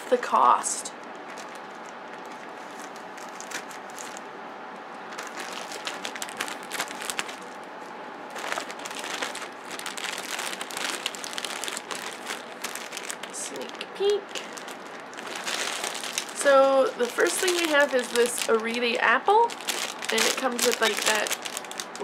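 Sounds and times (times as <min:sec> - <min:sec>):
plastic mailer bag crinkling: 0:00.4 - 0:22.0.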